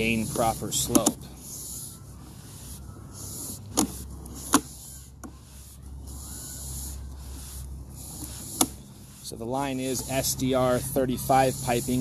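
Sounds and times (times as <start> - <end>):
equipment humming and hissing: 0.0 - 12.0.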